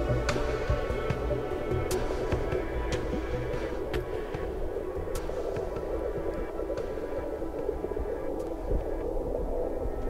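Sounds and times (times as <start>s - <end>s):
muffled underwater rumble: 0.0s - 10.0s.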